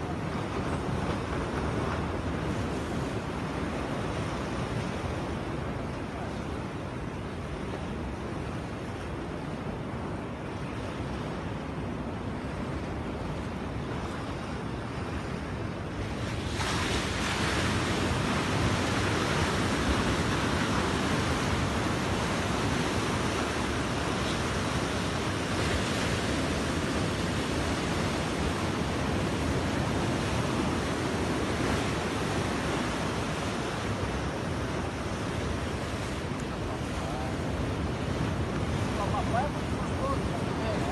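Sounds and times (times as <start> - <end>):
waves breaking over rocks: 0.0 - 9.7, 15.2 - 40.9.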